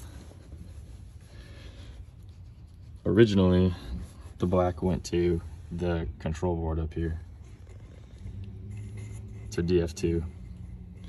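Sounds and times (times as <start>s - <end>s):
low steady rumble: 0.0s - 11.0s
rubbing and rustling handling noise: 0.0s - 11.0s.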